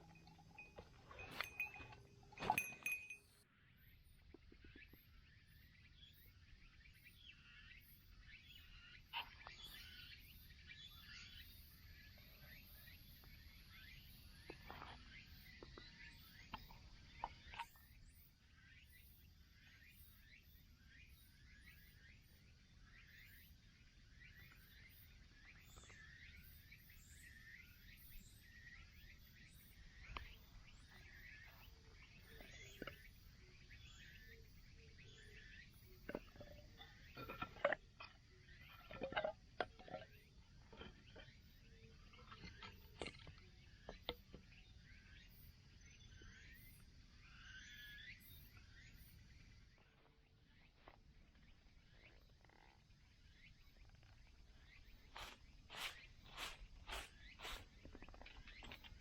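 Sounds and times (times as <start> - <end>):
faint bird chirps: 0.0 - 59.0.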